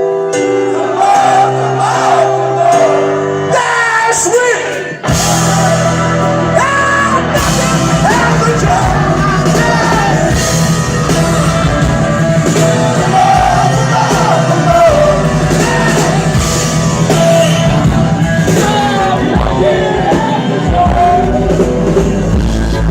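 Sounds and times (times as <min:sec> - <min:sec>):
live rock band playing: 0:00.0 - 0:22.9
voices singing and shouting: 0:00.6 - 0:22.0.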